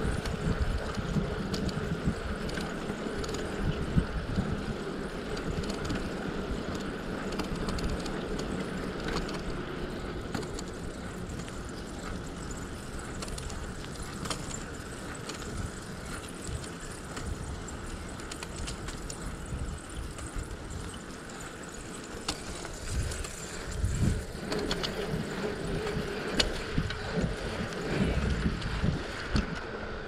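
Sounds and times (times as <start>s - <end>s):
light clicks and rattles: 0.0s - 29.7s
bicycle tyre noise: 0.0s - 30.0s
wind noise: 0.0s - 30.0s.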